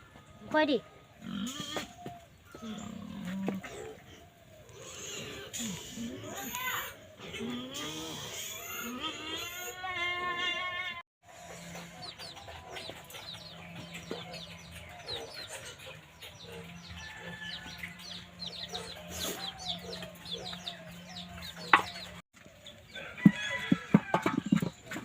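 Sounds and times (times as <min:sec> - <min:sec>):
chickens clucking: 0:00.2 - 0:09.8, 0:10.4 - 0:25.0.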